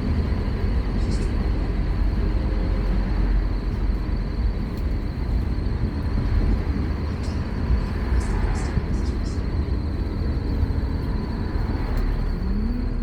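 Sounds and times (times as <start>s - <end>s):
bus diesel engine rumble: 0.0s - 13.0s
road noise: 0.0s - 13.0s.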